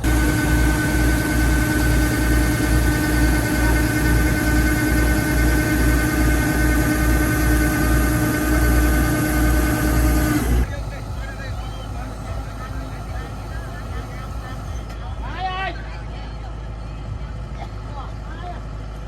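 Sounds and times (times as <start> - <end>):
steady machine whine: 0.0 - 15.4
combine harvester engine throbbing: 0.0 - 19.0.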